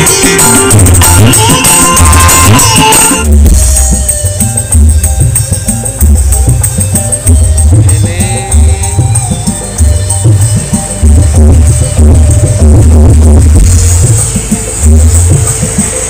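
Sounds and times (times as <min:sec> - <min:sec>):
loud music with pulsing bass: 0:00.0 - 0:16.0.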